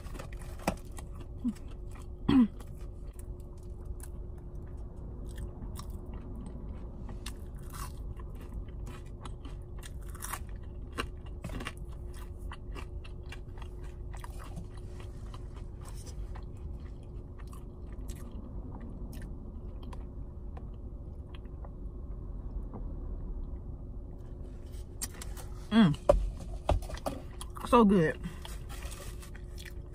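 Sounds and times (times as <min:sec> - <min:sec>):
chewing and crunching food: 0:00.0 - 0:22.9, 0:24.2 - 0:29.9
faint steady hum: 0:00.0 - 0:29.9.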